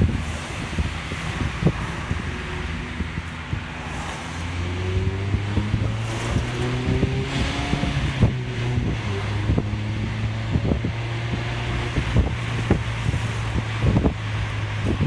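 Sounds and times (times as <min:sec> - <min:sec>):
car engine cruising: 0:00.0 - 0:15.0
low thumps: 0:00.0 - 0:15.0
rushing wind: 0:00.0 - 0:15.0.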